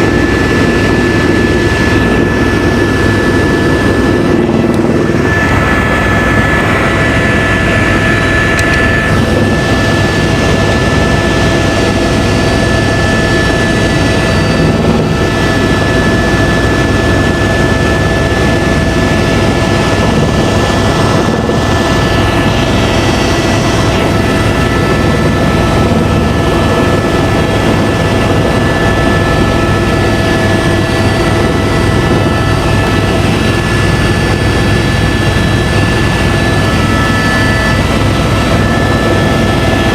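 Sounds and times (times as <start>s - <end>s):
helicopter engine and rotor drone: 0.0s - 39.9s
high turbine whine: 0.0s - 39.9s.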